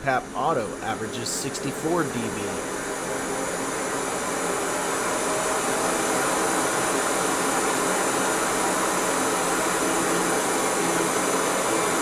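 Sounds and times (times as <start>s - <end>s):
airy blower hiss: 0.0s - 12.0s
faint hum: 0.0s - 12.0s.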